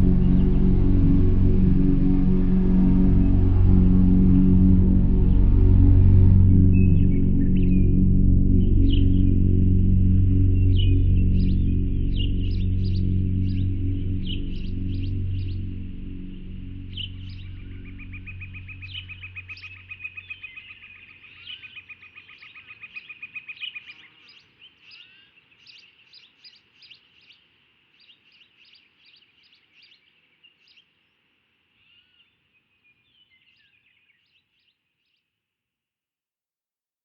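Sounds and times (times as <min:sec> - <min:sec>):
songbirds chirping: 0:00.0 - 0:35.3.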